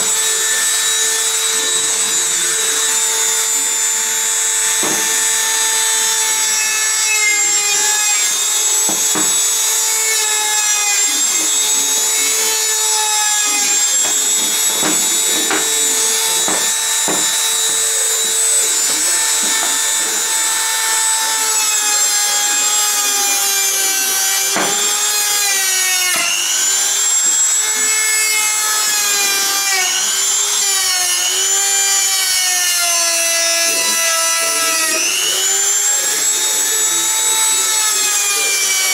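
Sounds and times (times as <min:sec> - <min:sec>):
rotary tool whining: 0:00.0 - 0:38.9.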